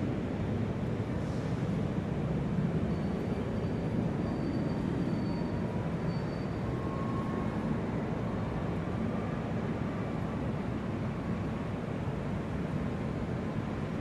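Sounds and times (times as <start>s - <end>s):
low rumble of engines: 0.0s - 14.0s.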